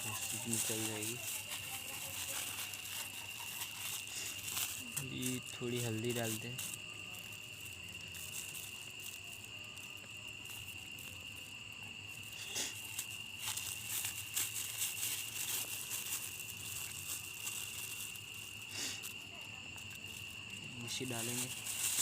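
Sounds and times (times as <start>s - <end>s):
clicks and rustles: 0.0s - 22.0s
crickets chirring: 0.0s - 22.0s.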